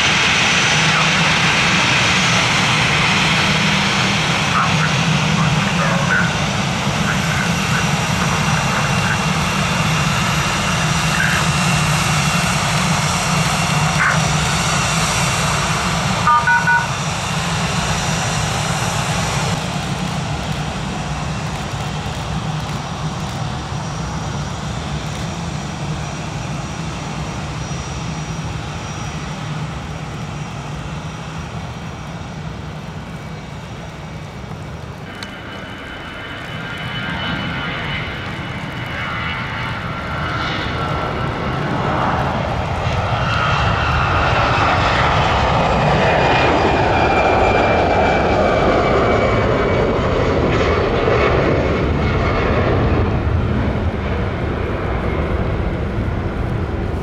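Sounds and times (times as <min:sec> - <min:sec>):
jet airliner engines running: 0:00.0 - 0:57.0.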